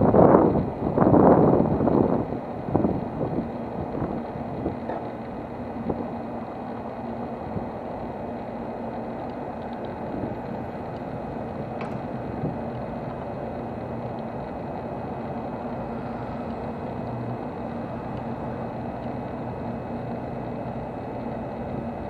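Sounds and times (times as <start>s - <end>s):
train equipment humming and rushing: 0.0s - 22.0s.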